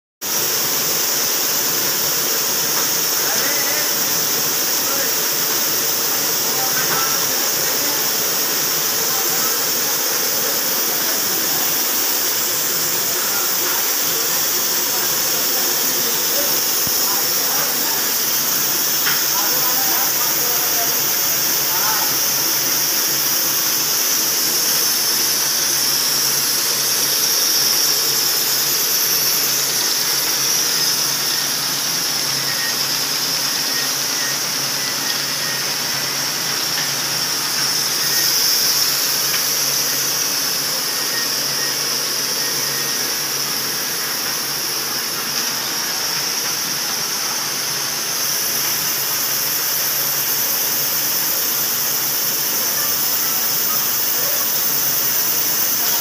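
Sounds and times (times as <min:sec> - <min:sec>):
high-pitched machine noise: 0:00.2 - 0:56.0.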